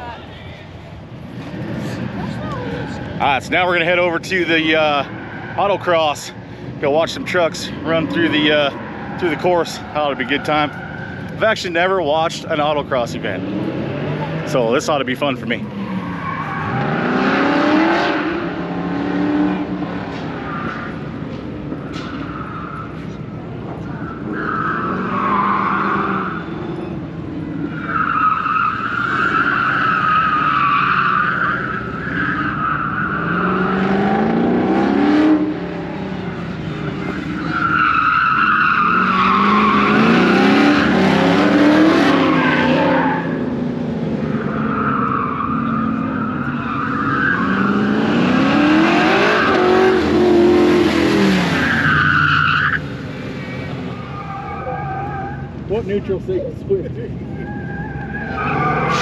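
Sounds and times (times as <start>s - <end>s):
tires squealing: 0.0s - 59.0s.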